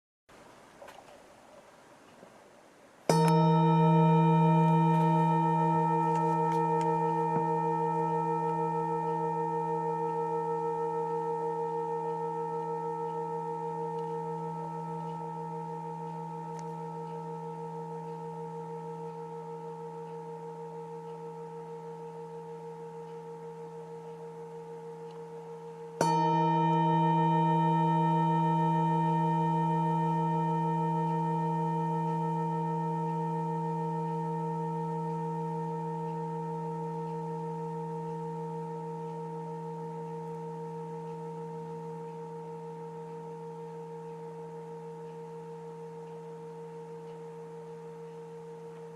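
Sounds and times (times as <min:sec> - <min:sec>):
singing bowl ringing: 0:03.1 - 0:48.9
singing bowl strike: 0:03.1 - 0:48.9.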